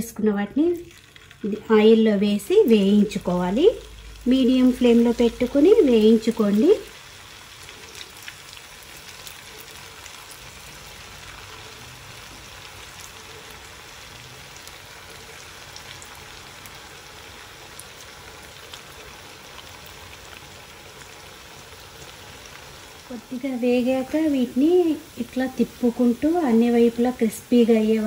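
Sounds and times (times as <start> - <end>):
food deep-frying in oil: 0.0 - 28.0.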